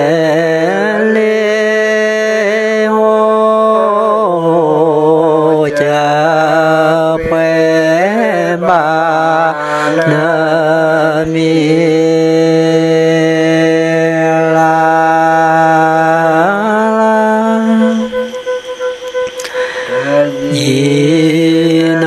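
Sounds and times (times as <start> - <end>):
man chanting in long notes: 0.0 - 22.0.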